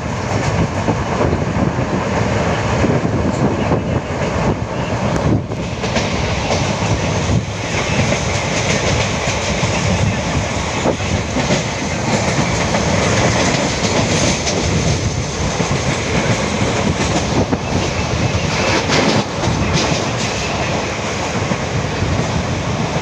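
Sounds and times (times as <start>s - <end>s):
train wheel and rail noise: 0.0s - 23.0s.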